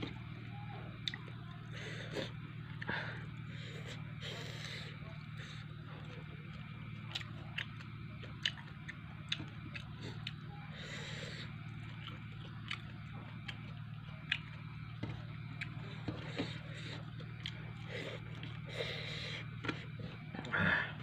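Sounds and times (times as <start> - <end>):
low hum: 0.0 - 21.0
person chewing food: 1.0 - 20.8.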